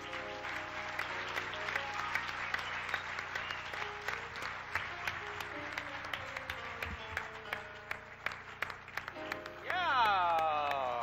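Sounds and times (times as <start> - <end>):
piano playing notes: 0.0 - 10.6
audience applause: 0.0 - 11.0.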